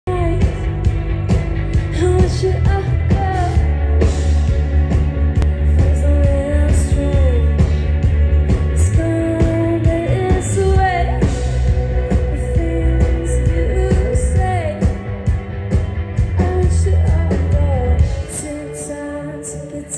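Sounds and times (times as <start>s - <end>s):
woman singing: 0.0s - 4.3s, 5.5s - 15.1s, 16.4s - 19.9s
drum kit: 0.0s - 18.5s
electric bass: 0.0s - 19.9s
electric guitars: 0.1s - 19.9s.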